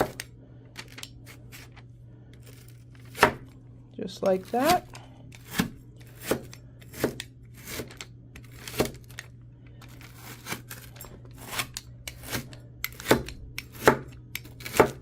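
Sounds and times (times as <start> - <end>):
pizza cutter crunching through cereal bar: 2.4 - 3.5, 4.1 - 15.0.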